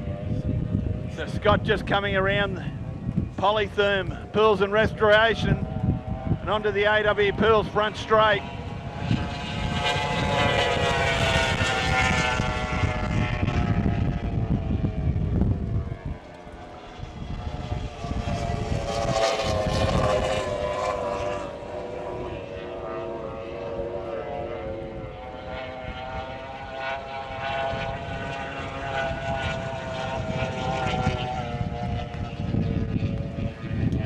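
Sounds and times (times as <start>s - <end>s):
racing boat engine at high revs: 0.0s - 34.0s
wind on microphone: 0.0s - 34.0s.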